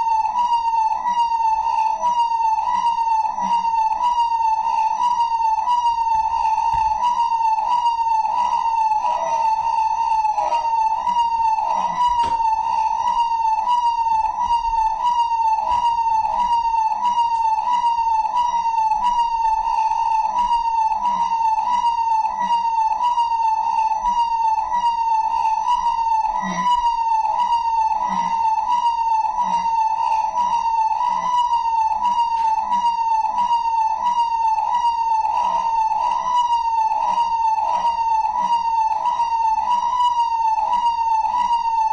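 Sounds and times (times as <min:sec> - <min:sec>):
siren warbling: 0:00.0 - 0:41.9.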